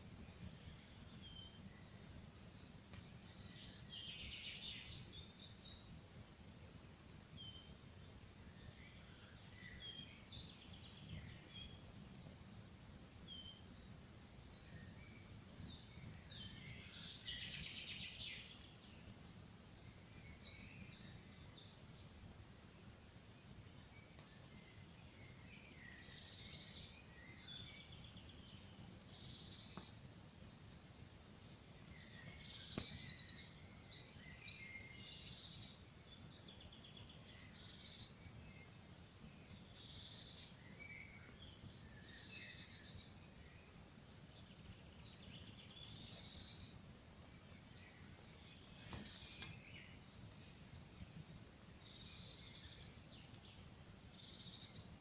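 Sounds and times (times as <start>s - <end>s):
songbirds singing and calling: 0.0s - 55.0s.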